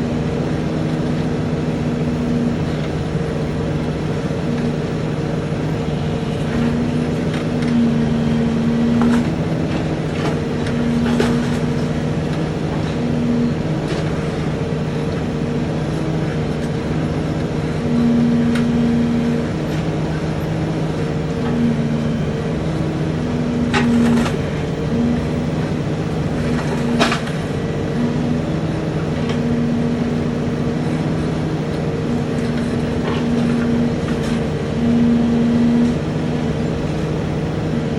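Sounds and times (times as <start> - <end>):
higher hum: 0.0 - 37.9
truck engine running: 0.0 - 37.9.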